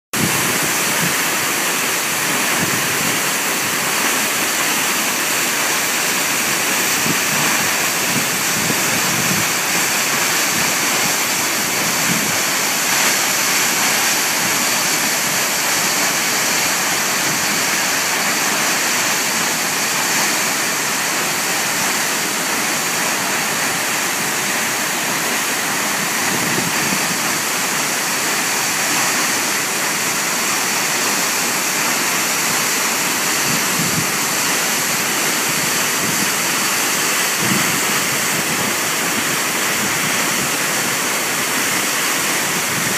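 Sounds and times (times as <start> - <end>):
waterfall rushing: 0.2 - 42.9.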